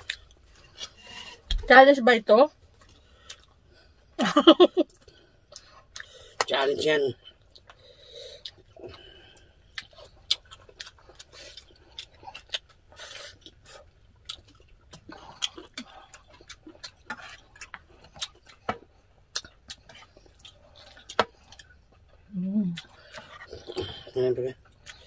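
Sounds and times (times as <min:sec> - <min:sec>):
chewing and mouth noises: 0:00.0 - 0:01.6, 0:02.6 - 0:04.1, 0:04.8 - 0:06.6, 0:07.2 - 0:25.0.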